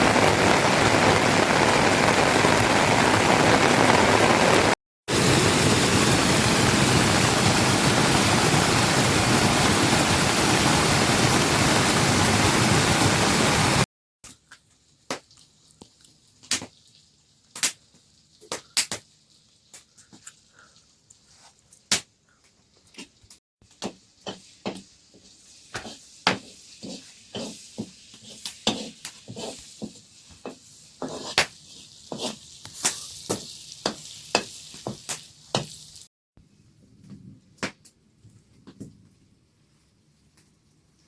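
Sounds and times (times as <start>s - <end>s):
food frying hiss: 0.0s - 13.9s, 14.6s - 21.8s, 23.7s - 36.1s.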